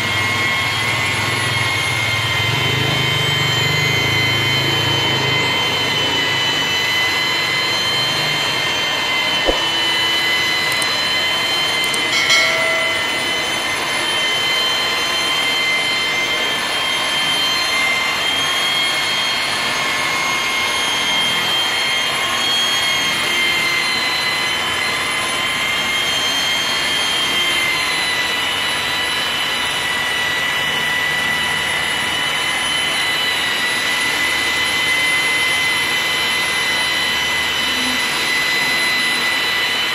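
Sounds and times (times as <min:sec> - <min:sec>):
polisher whining on glass: 0:00.0 - 0:39.9.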